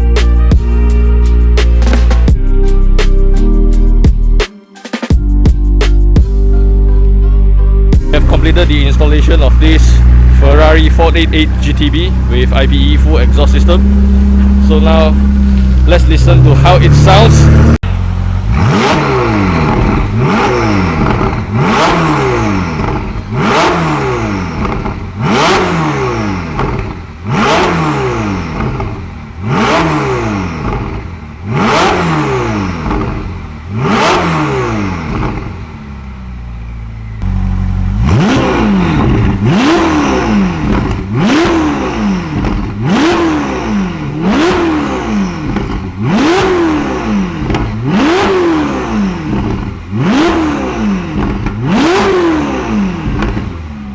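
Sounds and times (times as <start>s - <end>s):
car engine idling: 6.1s - 53.9s
car engine revving: 7.9s - 53.9s.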